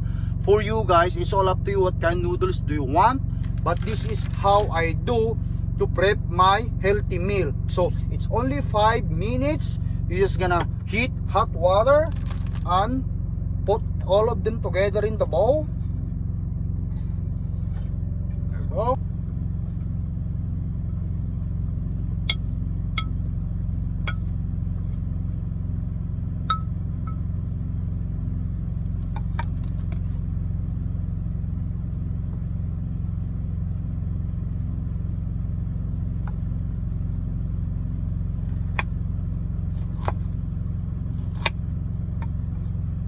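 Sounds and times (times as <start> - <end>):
truck engine idling: 0.0 - 43.0.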